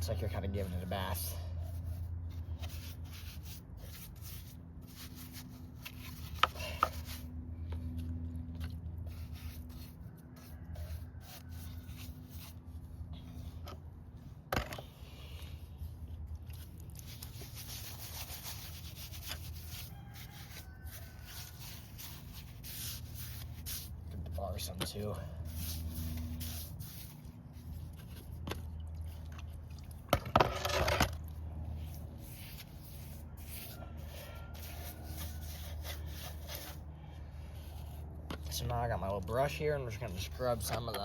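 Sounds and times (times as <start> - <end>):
paintbrush scrubbing: 0.0 - 13.6, 15.2 - 30.0, 30.8 - 39.1.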